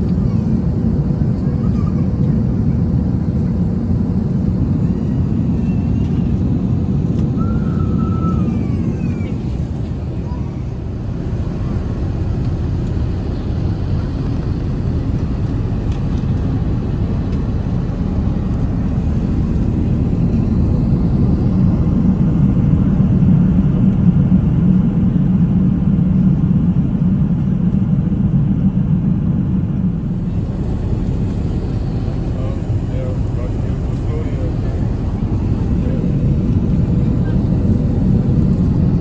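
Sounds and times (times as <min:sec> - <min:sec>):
airliner cabin engine rumble: 0:00.0 - 0:39.0.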